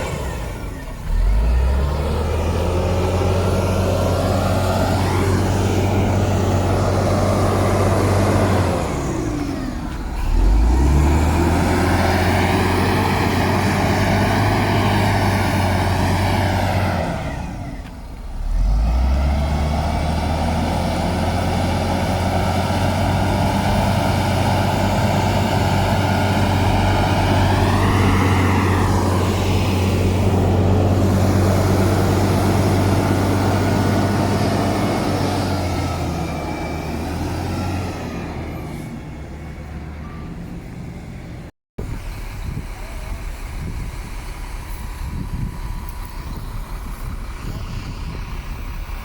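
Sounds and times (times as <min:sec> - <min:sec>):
heavy diesel engine running hard: 0:00.0 - 0:49.0.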